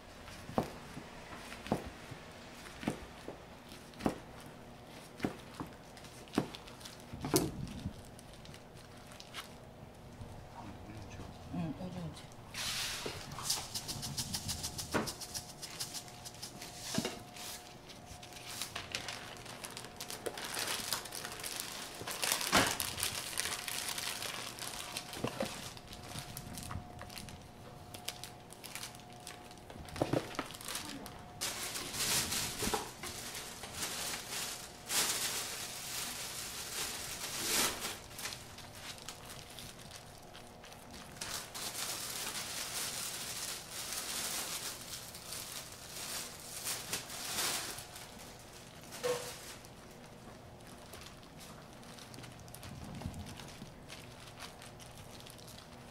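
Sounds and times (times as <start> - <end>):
paper rustling and crinkling: 2.5 - 9.6, 12.6 - 55.9.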